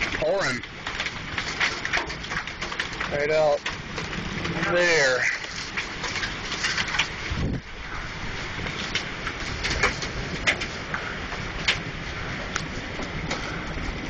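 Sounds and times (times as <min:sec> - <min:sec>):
hailstones striking hard surfaces: 0:00.0 - 0:14.0
heavy rain: 0:00.0 - 0:14.0.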